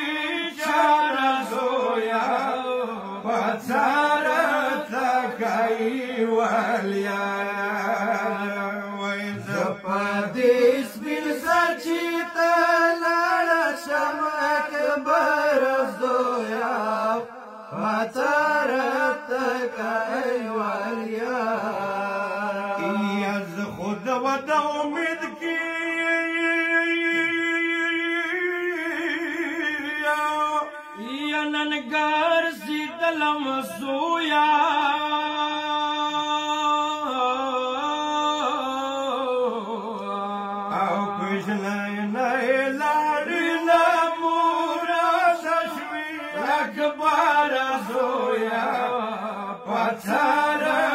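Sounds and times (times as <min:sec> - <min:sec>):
men chanting a lament: 0:00.0 - 0:50.9.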